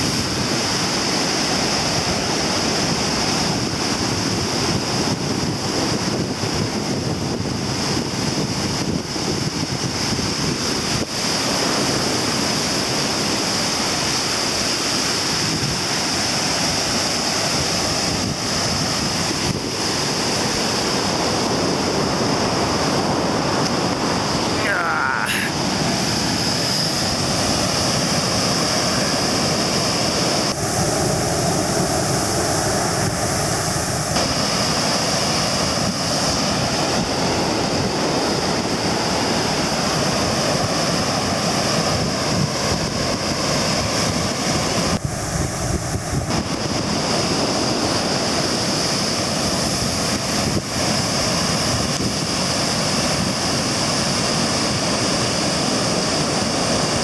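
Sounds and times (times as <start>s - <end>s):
turbulent water rushing: 0.0s - 57.0s.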